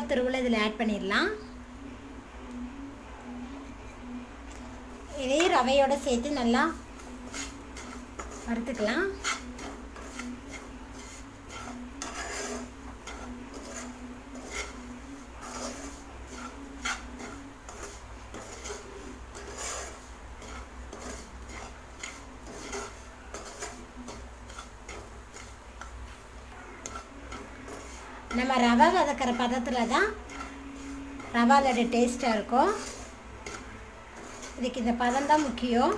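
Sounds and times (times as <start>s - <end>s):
utensil scraping a frying pan: 4.8s - 35.9s.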